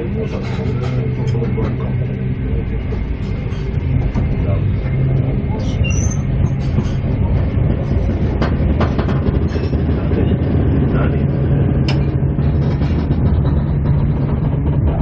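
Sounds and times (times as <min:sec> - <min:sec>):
train clicks and rattles: 0:00.0 - 0:15.0
train wheels rumbling on rail: 0:00.0 - 0:15.0.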